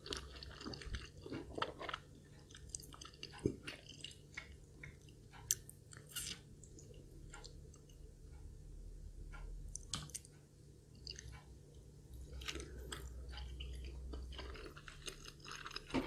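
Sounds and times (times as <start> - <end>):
chewing food: 0.0 - 8.0, 9.7 - 16.0.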